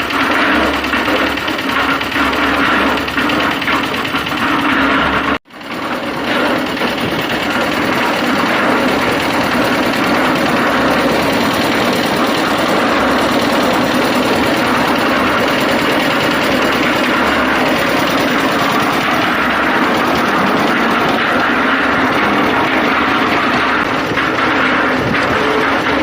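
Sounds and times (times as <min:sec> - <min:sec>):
concrete mixer engine running: 0:00.0 - 0:26.0.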